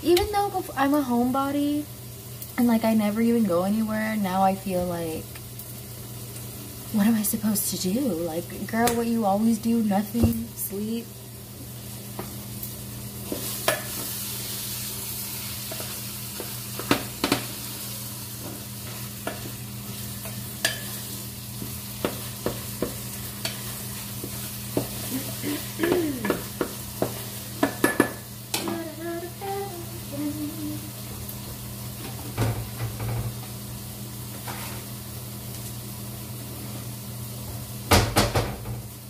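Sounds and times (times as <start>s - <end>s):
steady low hum: 0.0s - 32.3s
meat sizzling in a pan: 0.0s - 39.0s.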